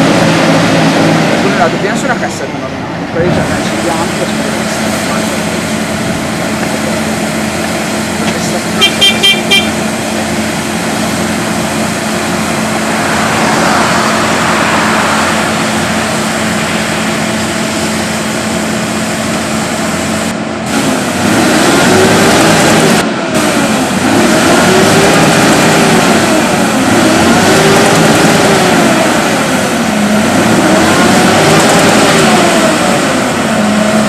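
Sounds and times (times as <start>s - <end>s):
combine harvester engine drone: 0.0s - 34.0s.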